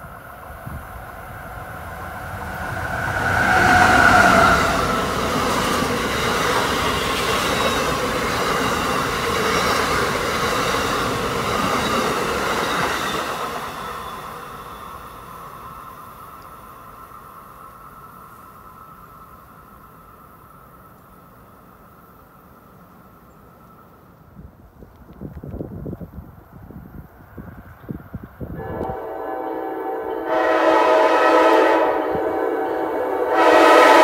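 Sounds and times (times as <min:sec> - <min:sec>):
electric locomotive whine: 0:00.0 - 0:34.0.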